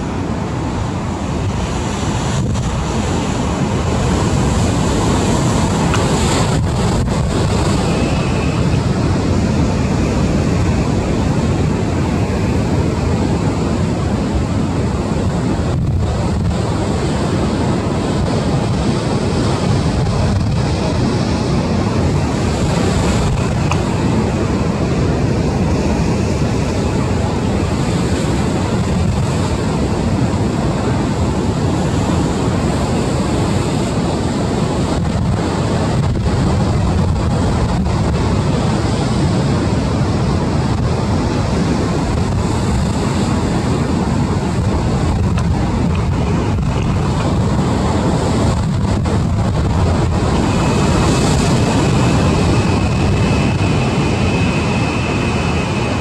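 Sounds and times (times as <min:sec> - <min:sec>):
rough surf: 0:00.0 - 0:56.0
wind buffeting microphone: 0:00.0 - 0:56.0.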